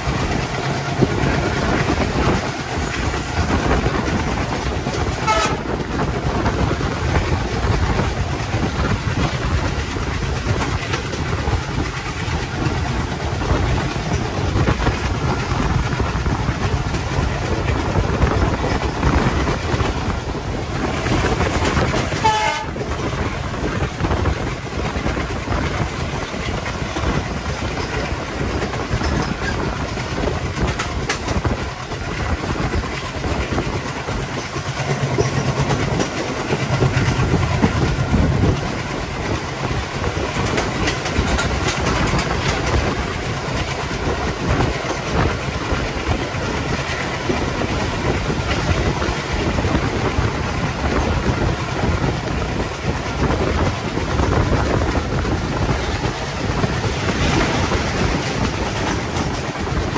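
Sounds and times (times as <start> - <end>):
diesel locomotive engine chugging: 0.0 - 59.9
train wheels clattering on rail joints: 0.0 - 59.9.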